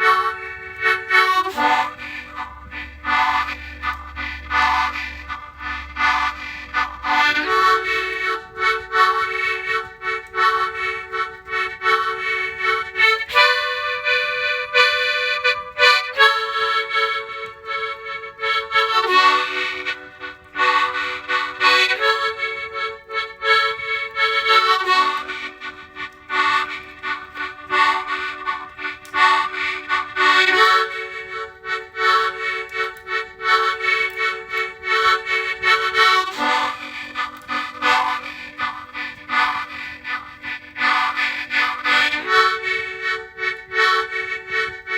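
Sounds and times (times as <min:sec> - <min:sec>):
harmonica playing chords: 0:00.0 - 0:44.9.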